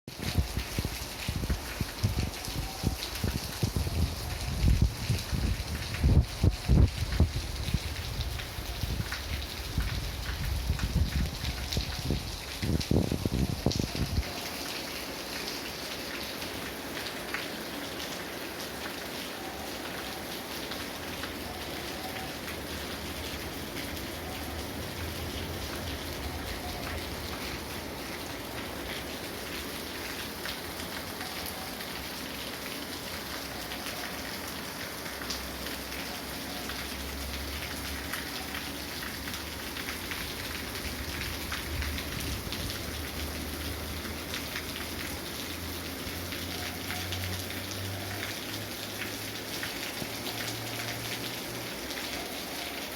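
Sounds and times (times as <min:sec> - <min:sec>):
raindrops ticking: 0:00.1 - 0:19.1, 0:19.7 - 0:52.9
steady rain hiss: 0:00.1 - 0:52.9.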